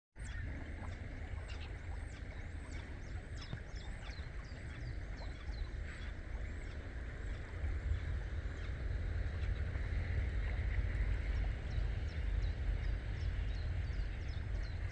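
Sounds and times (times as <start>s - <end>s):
steady low rumble: 0.2s - 14.9s.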